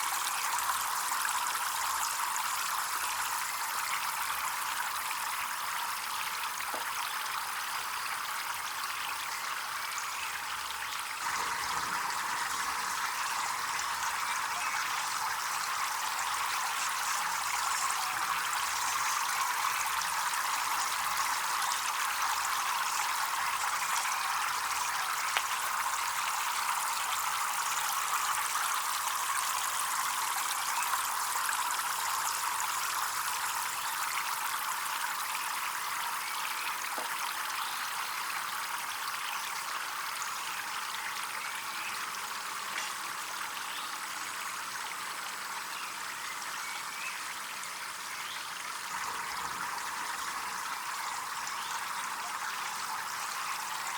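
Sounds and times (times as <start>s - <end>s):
water trickling over stones: 0.0s - 53.9s.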